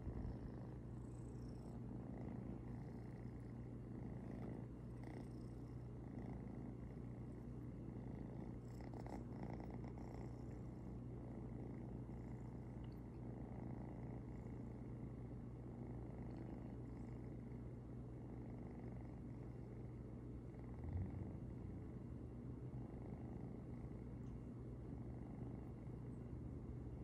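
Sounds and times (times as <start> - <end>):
kitten purring: 0.0 - 26.2.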